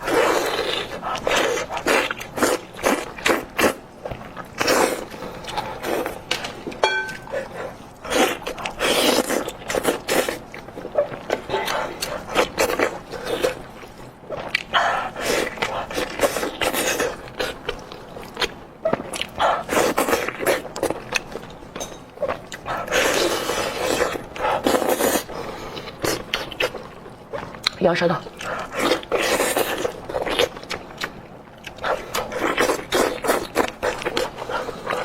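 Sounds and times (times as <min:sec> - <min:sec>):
chewing and tearing meat: 0:00.0 - 0:35.0.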